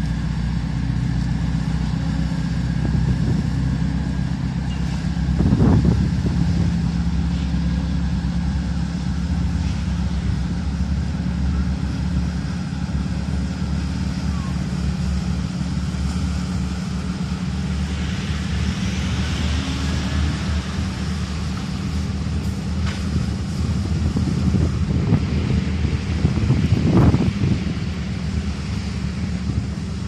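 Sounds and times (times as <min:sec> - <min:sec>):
ferry diesel engines droning: 0:00.0 - 0:30.0
rush of noise: 0:02.3 - 0:30.0.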